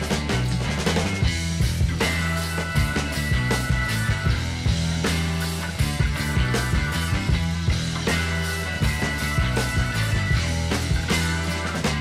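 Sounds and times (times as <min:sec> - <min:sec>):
music with bass and beat: 0:00.0 - 0:12.0.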